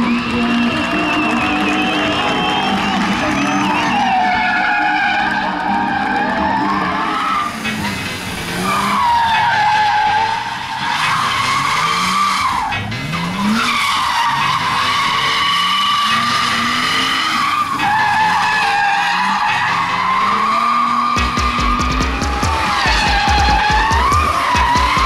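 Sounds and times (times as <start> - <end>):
car engine revving: 0.0 - 25.0
tyres squealing: 0.0 - 25.0.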